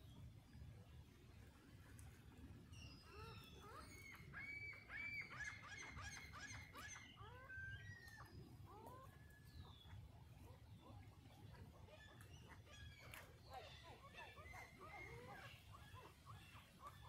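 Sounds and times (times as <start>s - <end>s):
flock of birds calling: 3.0s - 17.0s.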